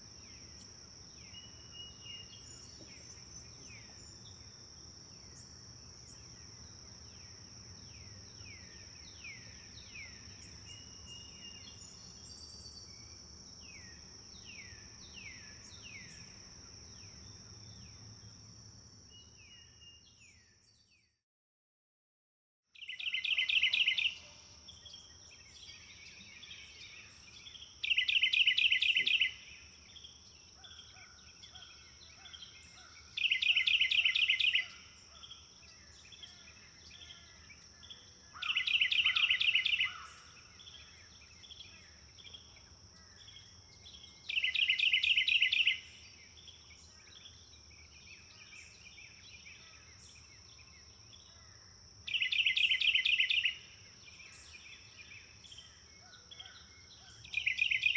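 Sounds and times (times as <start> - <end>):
birds chirping softly: 0.0 - 21.2, 22.8 - 57.9.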